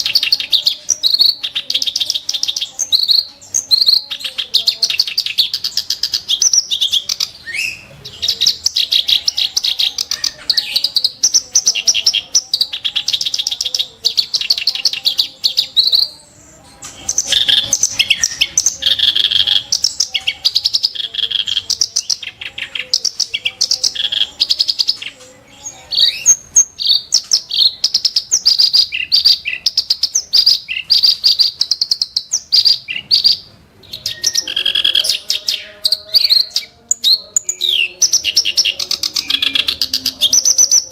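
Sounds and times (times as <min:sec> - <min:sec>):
reed warbler chattering song: 0:00.0 - 0:40.9.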